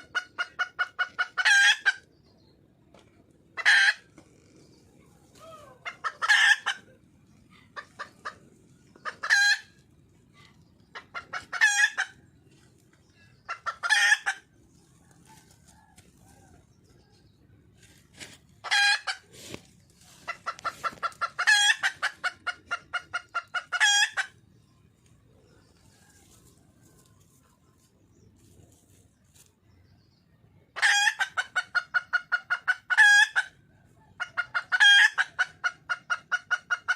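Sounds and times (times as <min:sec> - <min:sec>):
hen clucking: 0:00.0 - 0:29.6, 0:30.6 - 0:36.9.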